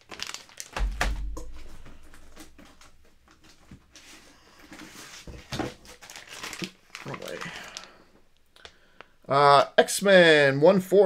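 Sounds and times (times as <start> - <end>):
plastic bags rustling: 0.0 - 9.2.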